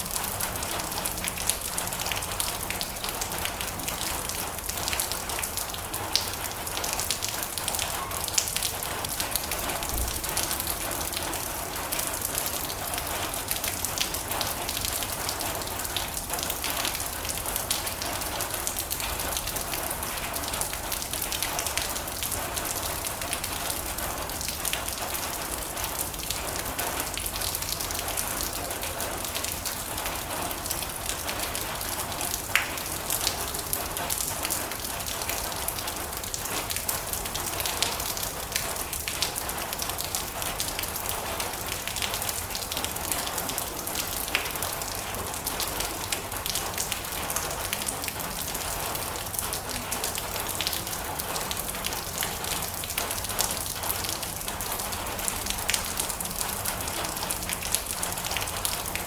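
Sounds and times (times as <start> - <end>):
rain drumming on a metal roof: 0.0 - 59.0.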